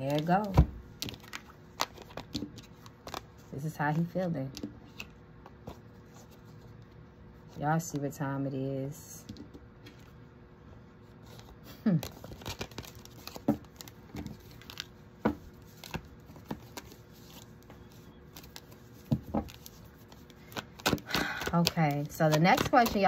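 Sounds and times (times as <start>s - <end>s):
cards being shuffled: 0.0s - 7.6s, 11.2s - 23.0s.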